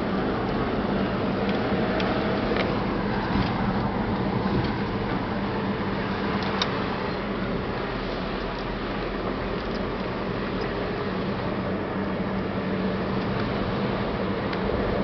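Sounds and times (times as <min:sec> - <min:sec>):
car engine and tyre noise: 0:00.0 - 0:15.0
small rattles in car: 0:01.2 - 0:07.5, 0:08.1 - 0:15.0.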